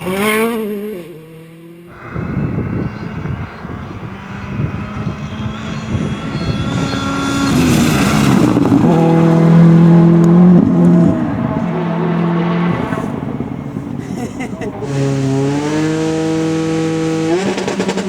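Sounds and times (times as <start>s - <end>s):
rally car engine high revs: 0.0s - 18.0s.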